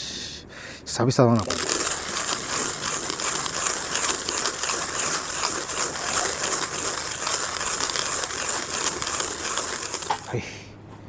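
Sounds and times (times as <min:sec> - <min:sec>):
hand coffee grinder crunching beans: 0:01.3 - 0:10.4.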